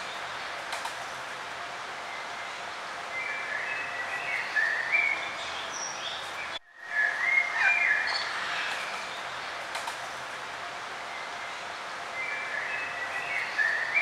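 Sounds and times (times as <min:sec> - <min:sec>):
outdoor background hiss: 0:00.0 - 0:14.0
songbirds chirping and warbling: 0:00.0 - 0:14.0.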